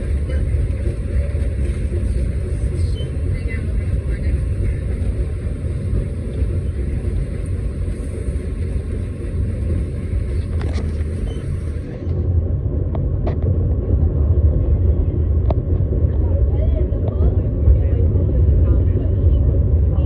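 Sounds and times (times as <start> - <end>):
steam train rumbling: 0.0 - 20.0.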